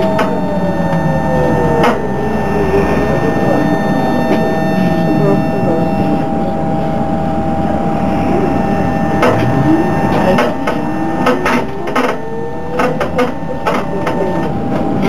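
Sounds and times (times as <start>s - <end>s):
trolleybus electric whine: 0.0s - 15.0s.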